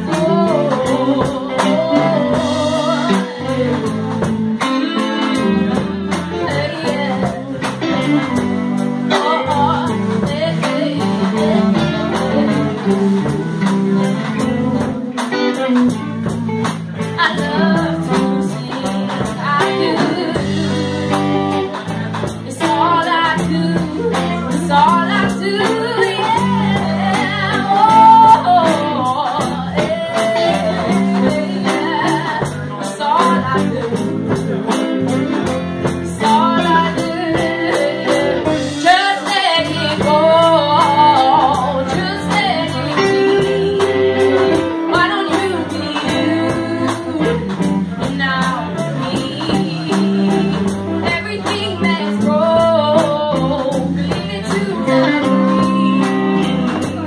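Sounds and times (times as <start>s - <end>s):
electric guitars: 0.0s - 57.0s
woman singing: 0.0s - 57.0s.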